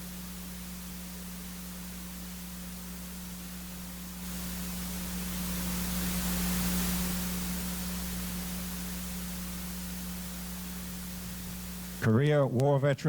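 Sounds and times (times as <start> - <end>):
constant low hum: 0.0 - 13.0
steady hiss: 0.0 - 13.0.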